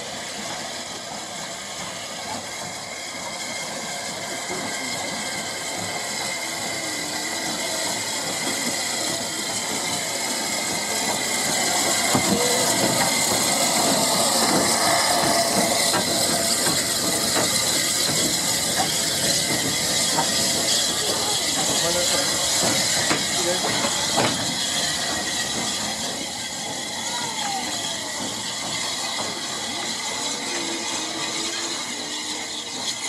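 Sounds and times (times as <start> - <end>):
steam hissing: 0.0 - 33.0
wheels clicking on rails: 0.0 - 33.0.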